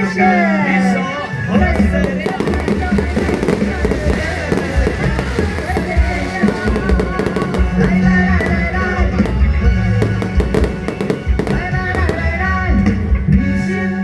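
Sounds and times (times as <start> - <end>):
fireworks banging: 1.3 - 13.4
loud music: 1.8 - 13.2.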